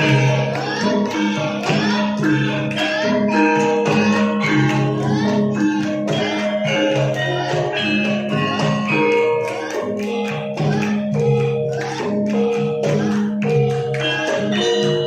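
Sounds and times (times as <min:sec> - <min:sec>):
jingling percussion: 0:00.0 - 0:15.0
struck tuned percussion: 0:00.0 - 0:15.0.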